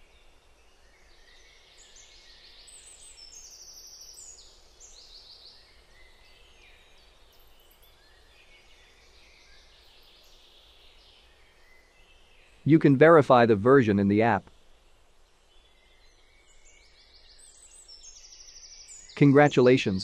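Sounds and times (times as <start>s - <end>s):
birds chirping: 0.9s - 20.0s.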